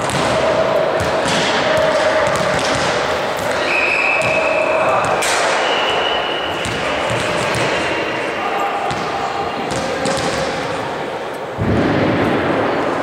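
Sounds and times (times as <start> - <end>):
volleyballs struck and bouncing: 0.0 - 11.0.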